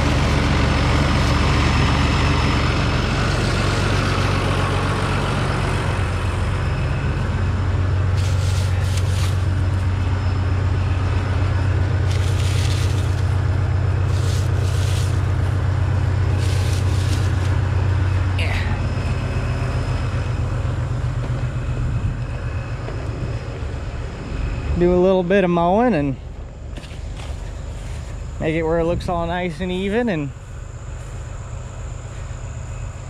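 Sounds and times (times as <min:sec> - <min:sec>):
farm machinery engine running: 0:00.0 - 0:33.0.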